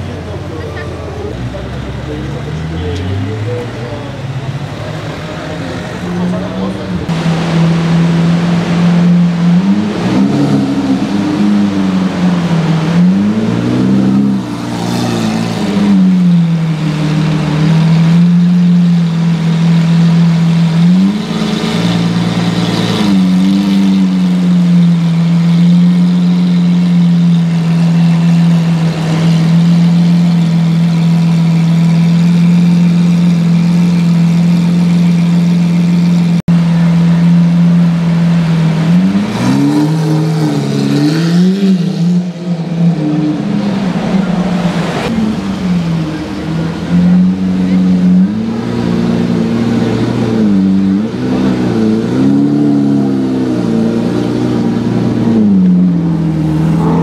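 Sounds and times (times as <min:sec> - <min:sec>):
engine throttle blips: 0:00.0 - 0:57.0
sports car engine droning: 0:00.0 - 0:57.0.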